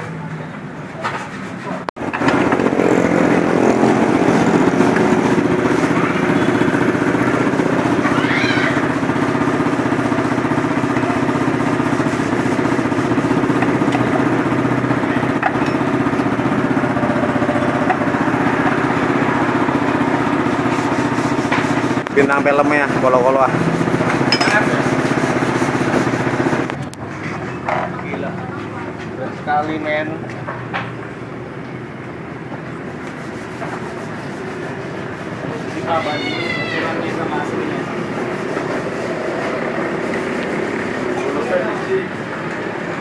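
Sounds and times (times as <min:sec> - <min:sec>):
scooter engine idling: 0:02.0 - 0:28.6, 0:34.7 - 0:43.0.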